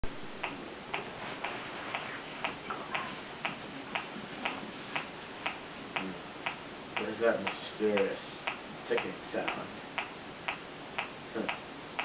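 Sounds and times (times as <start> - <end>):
steady ticking: 0.3 - 12.0.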